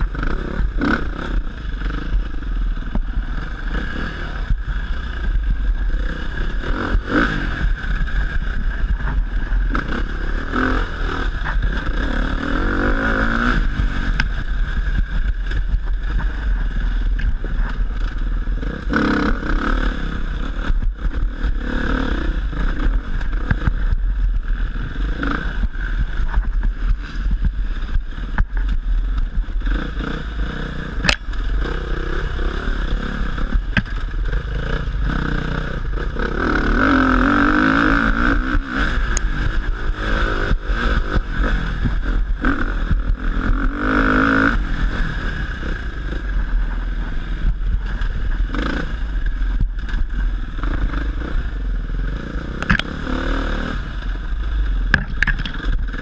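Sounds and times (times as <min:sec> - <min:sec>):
dirt bike engine revving: 0:00.0 - 0:56.0
wind rumble on microphone: 0:00.0 - 0:56.0.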